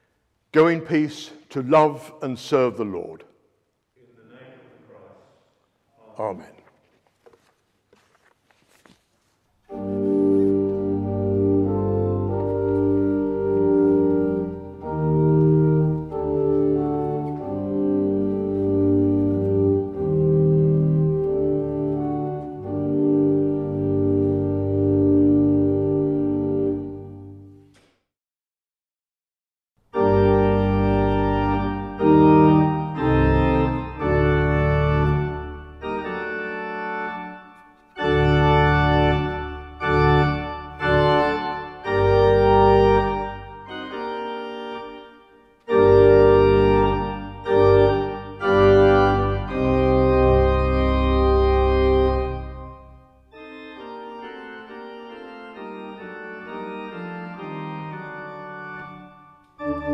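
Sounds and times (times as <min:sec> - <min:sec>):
organ chords: 0:00.0 - 0:03.3, 0:09.6 - 0:27.8, 0:29.8 - 0:59.9.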